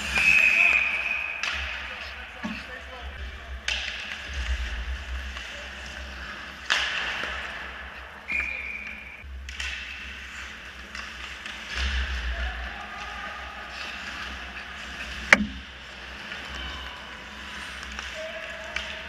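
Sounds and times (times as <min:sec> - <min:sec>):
hockey sticks and puck clacking: 0:00.0 - 0:19.0.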